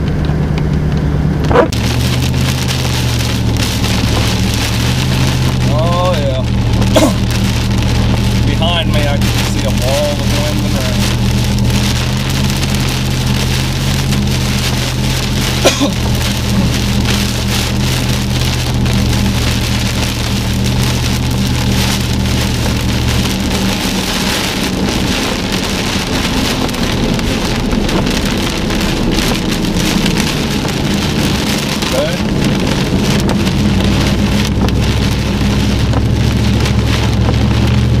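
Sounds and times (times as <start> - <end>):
heavy rain on car windshield: 0.0 - 38.0
low vehicle hum: 0.0 - 38.0.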